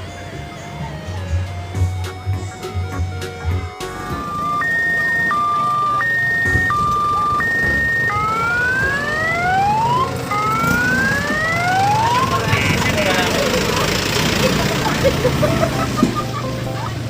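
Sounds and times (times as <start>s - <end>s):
siren whooping: 0.0s - 13.7s
two-tone electronic siren: 0.0s - 13.9s.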